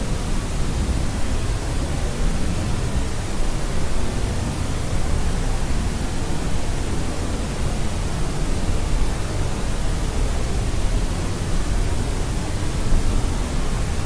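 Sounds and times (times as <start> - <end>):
white noise hiss: 0.0 - 14.0.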